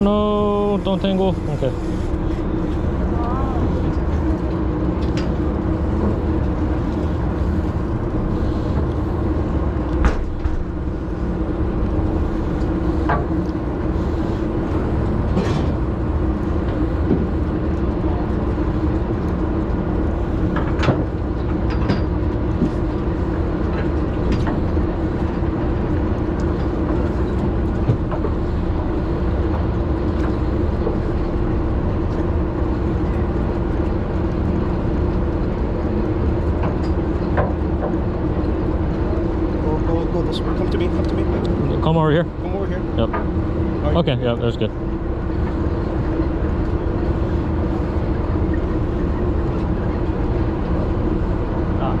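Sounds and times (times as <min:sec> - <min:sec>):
boat engine hum: 0:00.0 - 0:52.0.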